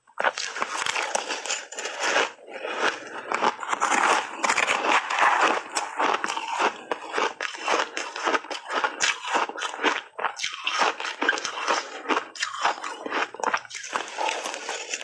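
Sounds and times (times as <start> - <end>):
shaved ice crunching when chewed: 0.2 - 15.0.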